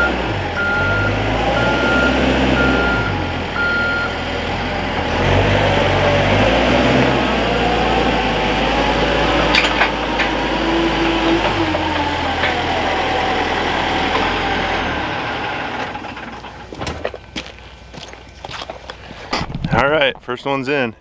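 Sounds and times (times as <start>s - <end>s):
lift engine whining: 0.0s - 19.3s.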